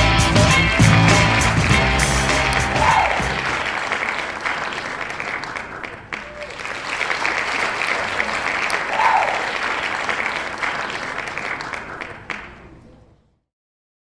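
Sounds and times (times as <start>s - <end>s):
audience applauding: 0.2s - 13.1s.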